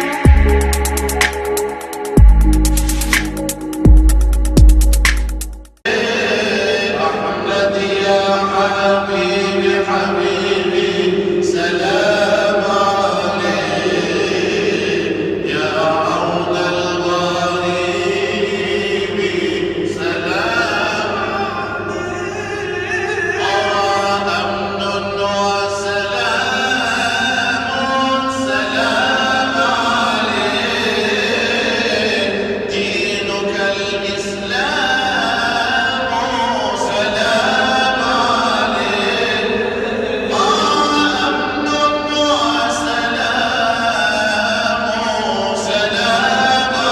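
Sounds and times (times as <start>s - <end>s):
voices chanting together: 0.0s - 3.8s, 5.8s - 46.9s.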